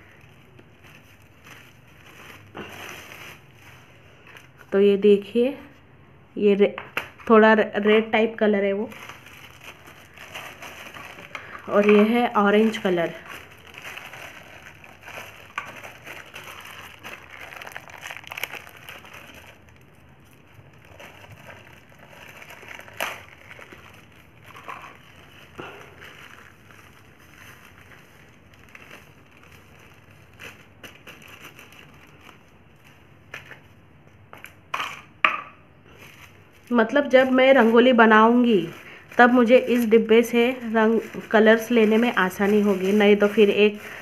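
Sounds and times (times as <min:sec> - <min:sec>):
plastic bag crinkling: 0:00.0 - 0:04.8, 0:08.6 - 0:34.7, 0:35.9 - 0:44.0.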